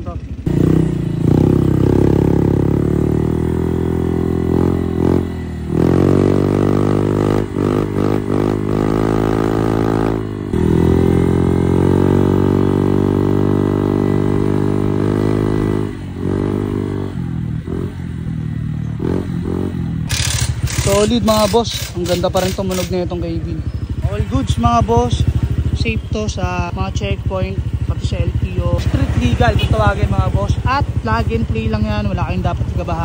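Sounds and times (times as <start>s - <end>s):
scooter engine under throttle: 0.0s - 33.0s.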